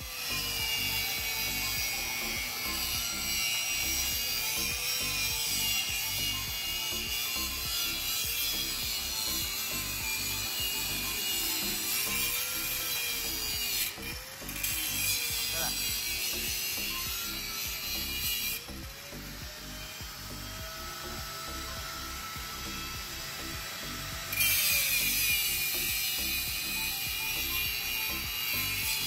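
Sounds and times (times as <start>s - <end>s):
power tool grinding: 0.0s - 29.0s.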